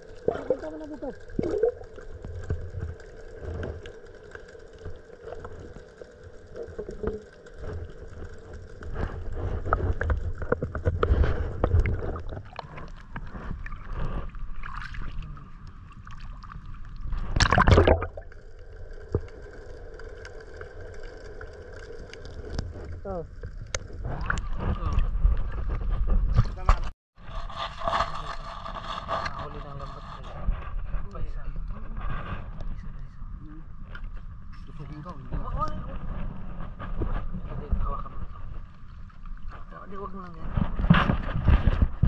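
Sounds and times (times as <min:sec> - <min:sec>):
sea water sloshing and gurgling: 0:00.0 - 0:33.0, 0:33.7 - 0:42.0.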